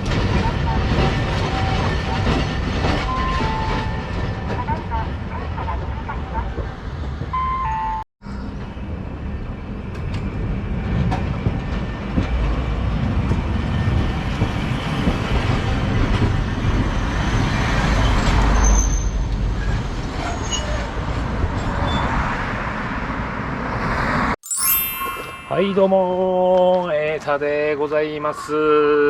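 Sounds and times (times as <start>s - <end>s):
streetcar wheels rumbling on track: 0.0s - 24.1s.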